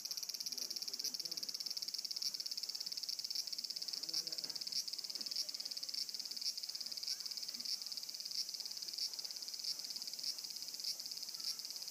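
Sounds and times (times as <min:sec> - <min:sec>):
cicadas buzzing: 0:00.0 - 0:11.9.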